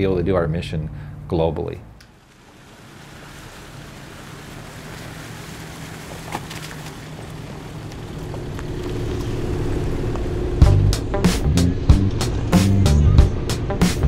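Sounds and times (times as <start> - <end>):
gravel road noise: 0.0 - 14.0
vehicle engine hum: 0.0 - 14.0.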